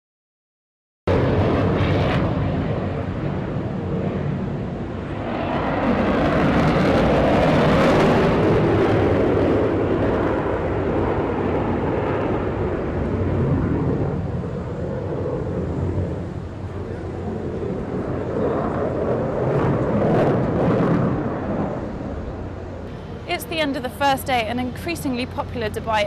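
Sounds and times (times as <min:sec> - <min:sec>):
jet aircraft flying past: 0:01.1 - 0:26.0.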